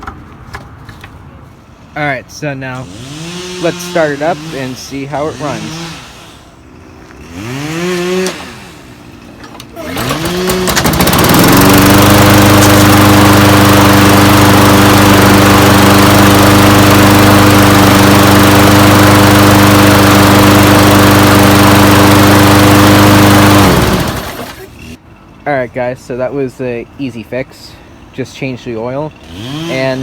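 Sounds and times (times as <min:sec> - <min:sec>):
lawn mower engine running: 0:02.0 - 0:25.7, 0:29.1 - 0:30.0.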